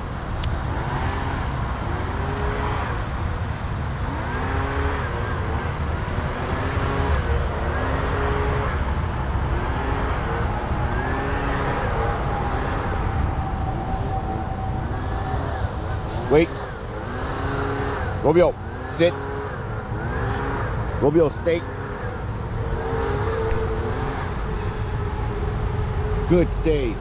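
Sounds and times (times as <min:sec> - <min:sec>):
low rumble of road traffic: 0:00.0 - 0:27.0.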